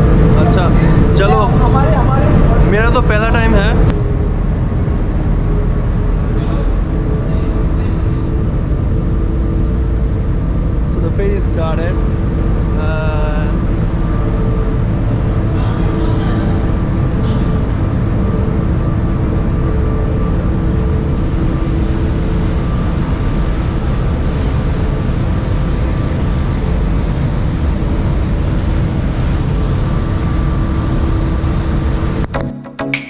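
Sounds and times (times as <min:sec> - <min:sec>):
ship engines rumbling: 0:00.0 - 0:32.4
steady humming tones: 0:00.0 - 0:32.4.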